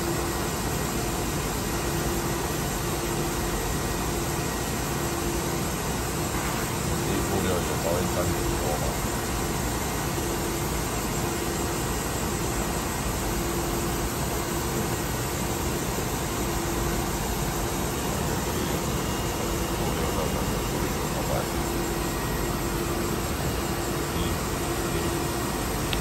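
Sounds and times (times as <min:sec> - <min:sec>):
machine humming and hissing: 0:00.0 - 0:26.0.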